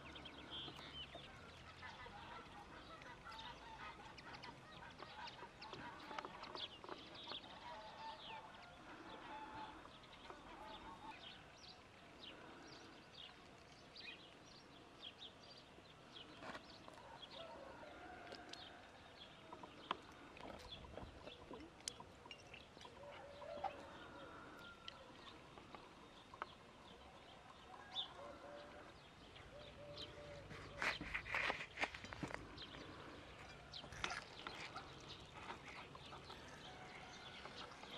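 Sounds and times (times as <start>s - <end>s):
birds chirping and calling: 0.0s - 15.2s, 19.4s - 37.9s.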